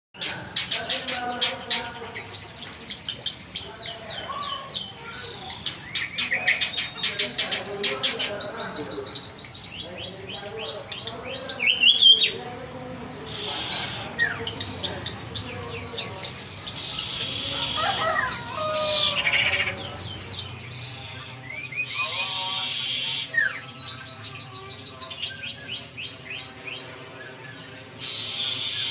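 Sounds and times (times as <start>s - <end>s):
caged songbirds chirping and singing: 0.2s - 28.9s.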